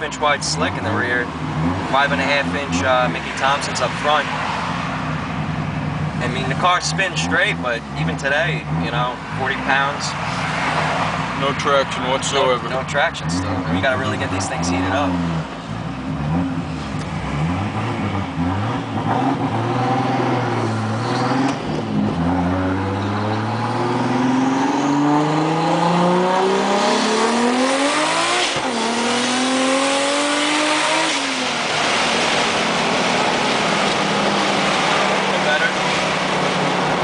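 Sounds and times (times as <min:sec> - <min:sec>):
turbocharged car engine revving: 0:00.0 - 0:37.0.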